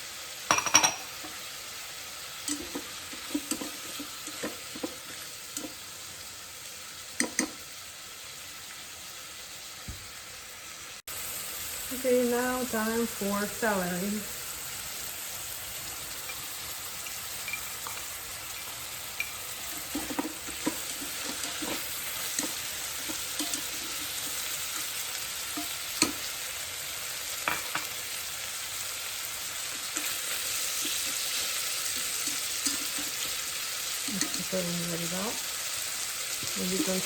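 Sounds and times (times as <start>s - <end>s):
vegetables sizzling in oil: 0.0s - 37.0s.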